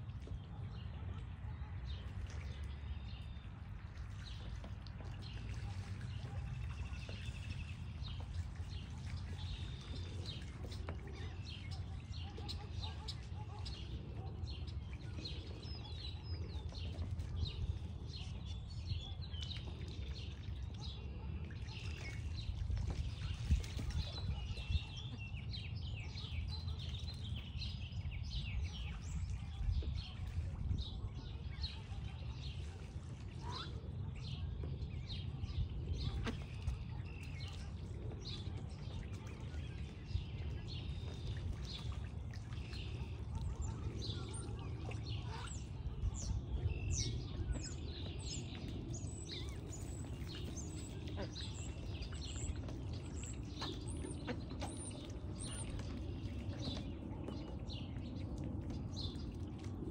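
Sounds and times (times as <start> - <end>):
steady low rumble: 0.0 - 59.9
small birds chirping: 0.2 - 59.9.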